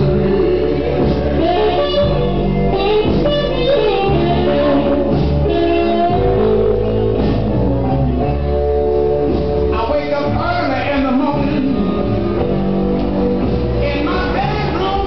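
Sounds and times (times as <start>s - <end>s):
blues song over sound system: 0.0s - 15.0s.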